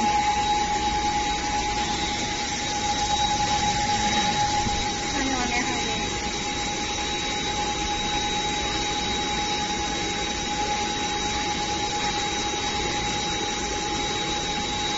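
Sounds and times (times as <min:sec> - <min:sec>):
bottle-blowing machine running: 0:00.0 - 0:14.9.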